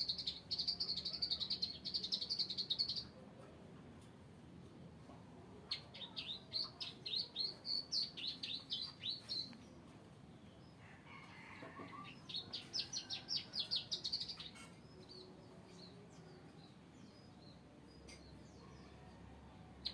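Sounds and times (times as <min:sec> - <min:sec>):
bird chirping: 0:00.0 - 0:03.2, 0:05.6 - 0:10.8, 0:11.8 - 0:19.9.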